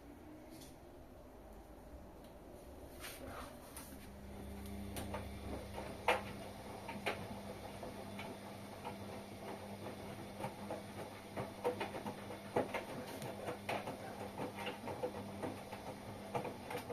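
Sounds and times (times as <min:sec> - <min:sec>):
washing machine hum: 0:00.0 - 0:16.9.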